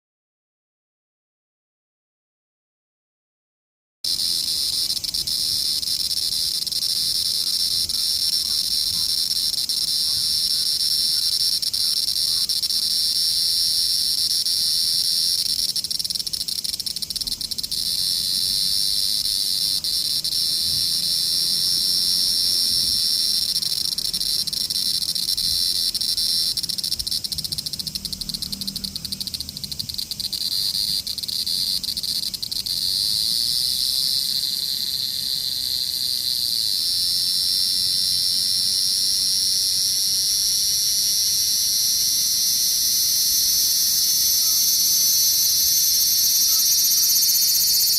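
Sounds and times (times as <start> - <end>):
cicadas buzzing: 4.1 - 47.9.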